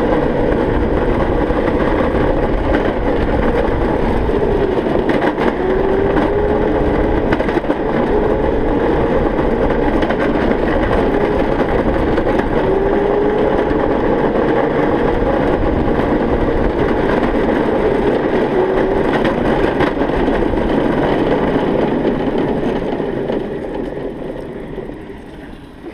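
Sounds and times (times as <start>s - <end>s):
small tyres rumbling on concrete: 0.0s - 25.9s
wind: 0.0s - 25.9s.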